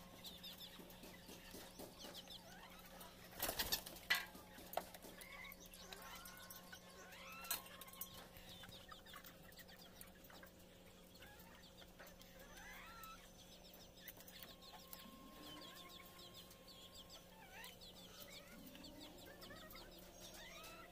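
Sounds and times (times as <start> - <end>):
chickens clucking: 0.0 - 20.9
faint steady hum: 0.0 - 20.9.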